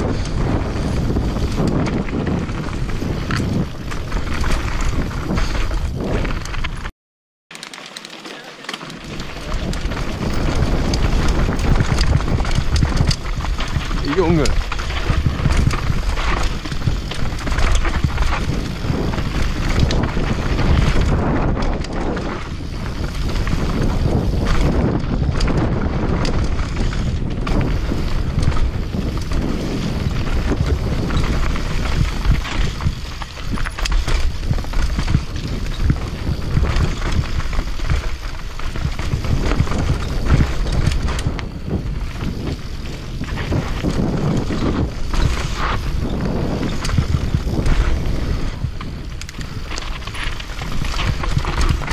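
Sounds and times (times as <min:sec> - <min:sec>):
bike knocks and rattles: 0:00.0 - 0:06.9, 0:07.5 - 0:51.9
bike tyres rumbling over dirt: 0:00.0 - 0:06.9, 0:07.5 - 0:51.9
wind buffeting microphone: 0:00.0 - 0:06.9, 0:08.9 - 0:51.9.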